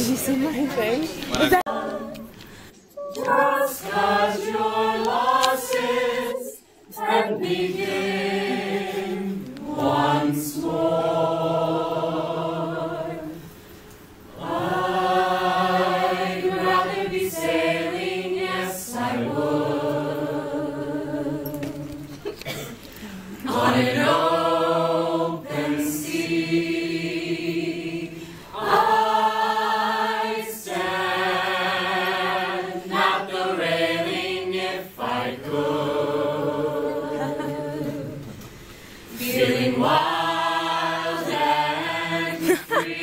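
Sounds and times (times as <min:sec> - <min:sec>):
choir singing a cappella: 0:01.4 - 0:22.6, 0:23.2 - 0:43.0.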